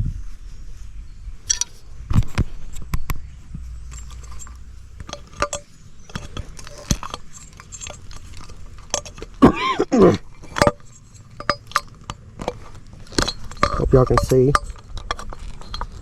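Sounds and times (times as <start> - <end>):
metal parts clinking and knocking: 1.5 - 1.8, 3.5 - 16.0.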